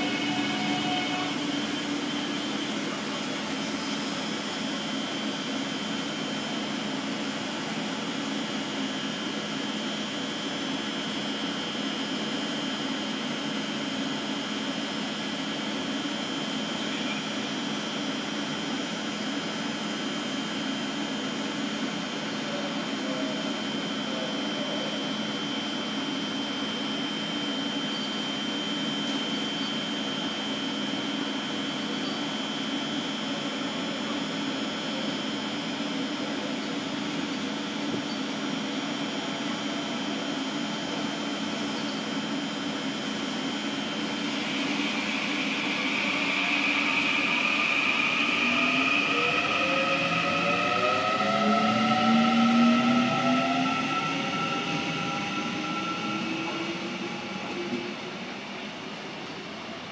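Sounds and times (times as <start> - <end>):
electric train humming with whine: 0.0 - 59.9.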